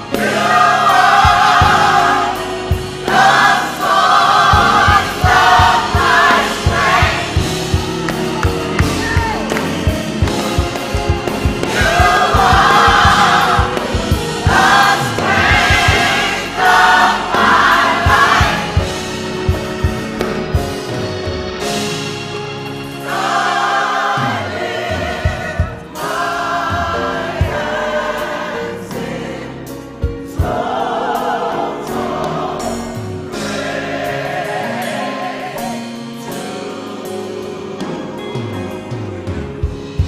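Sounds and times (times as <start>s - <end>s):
gospel choir singing in harmony: 0.0s - 40.0s
sustained backing notes: 0.0s - 40.0s.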